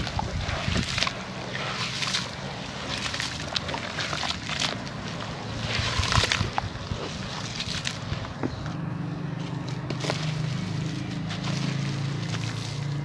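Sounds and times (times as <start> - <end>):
water splashes: 0.0 - 8.6, 9.5 - 13.0
hands sloshing in muddy water: 0.0 - 8.8, 9.4 - 13.0.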